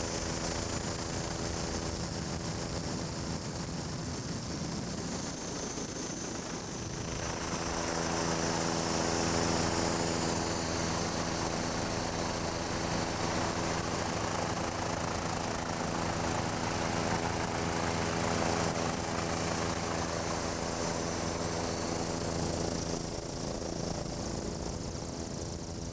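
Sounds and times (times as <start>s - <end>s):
helicopter engine and rotor drone: 0.0s - 25.9s.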